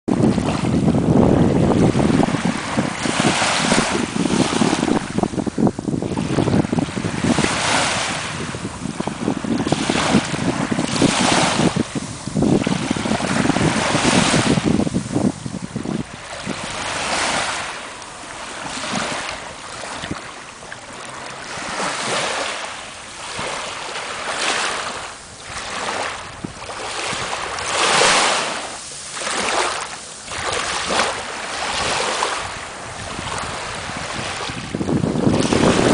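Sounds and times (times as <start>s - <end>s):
small waves lapping on sand: 0.1s - 35.9s
wind buffeting microphone: 0.1s - 35.9s.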